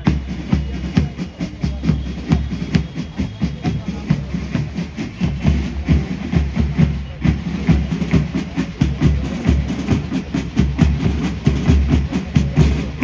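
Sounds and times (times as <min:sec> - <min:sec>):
bass drum beats: 0:00.0 - 0:13.0
snare drum strokes: 0:00.0 - 0:13.0.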